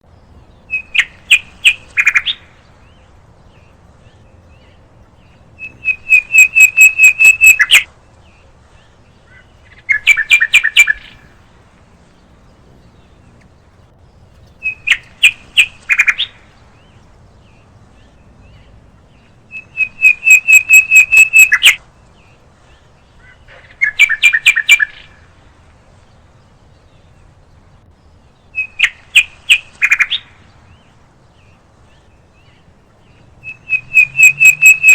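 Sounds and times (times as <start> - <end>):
bird calling sharp notes: 0.3 - 11.6, 12.3 - 25.4, 28.5 - 34.9.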